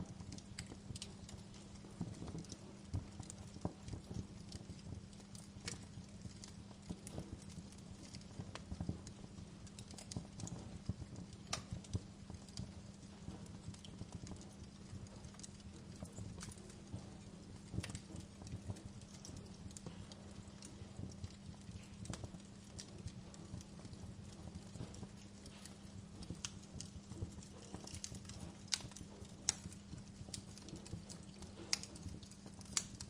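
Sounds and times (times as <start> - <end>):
low rumble of flames: 0.0 - 33.0
wood fire crackling: 0.0 - 33.0.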